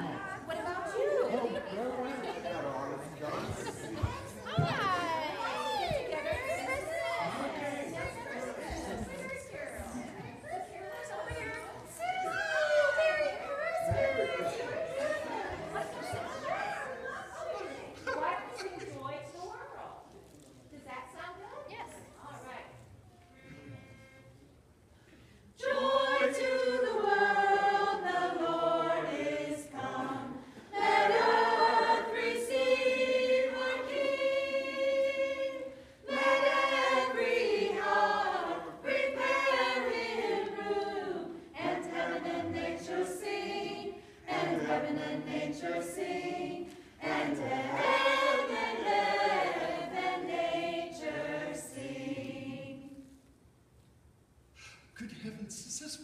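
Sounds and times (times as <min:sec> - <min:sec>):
choir singing a carol: 0:00.0 - 0:18.6, 0:25.4 - 0:53.3.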